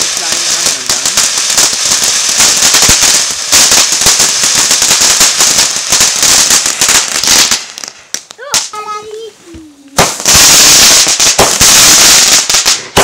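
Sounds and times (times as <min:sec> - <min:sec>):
firework crackling hiss: 0:00.0 - 0:13.0.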